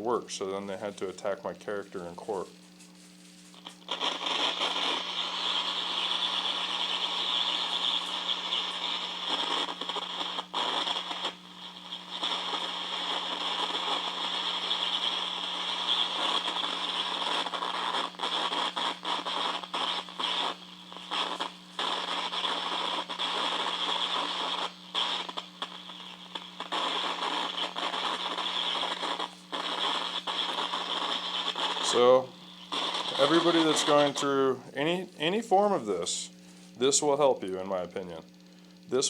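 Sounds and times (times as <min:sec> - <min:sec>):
radio static crackling hiss: 0:00.0 - 0:39.0.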